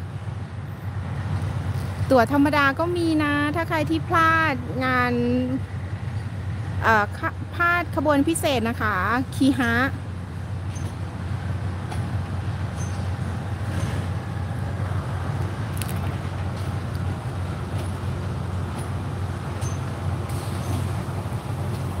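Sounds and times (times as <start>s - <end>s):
diesel train engine rumbling: 0.0s - 22.0s.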